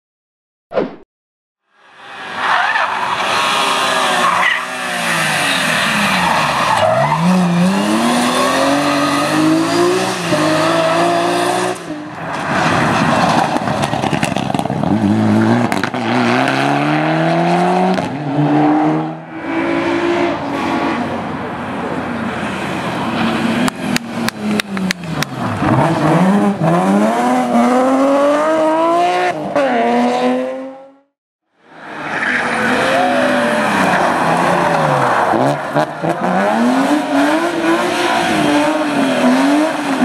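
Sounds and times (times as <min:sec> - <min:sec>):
rally car engines revving: 0:02.2 - 0:31.1, 0:31.7 - 0:40.0.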